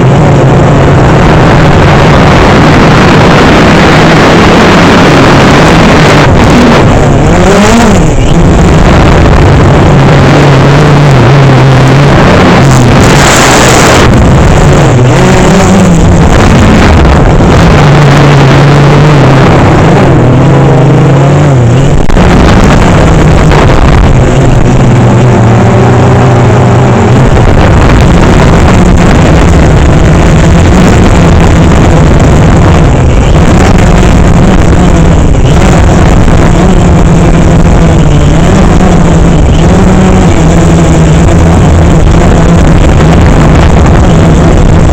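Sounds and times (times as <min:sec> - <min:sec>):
drone propellers buzzing: 0:00.0 - 0:44.9
heavy rushing noise: 0:00.0 - 0:44.9.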